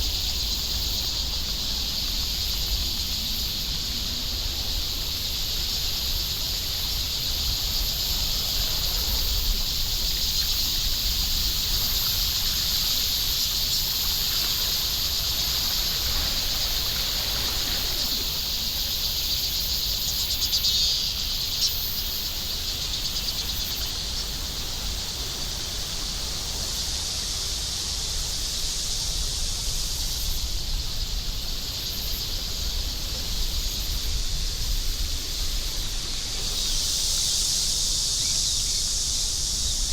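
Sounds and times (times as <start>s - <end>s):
insects buzzing high-pitched: 0.0s - 39.9s.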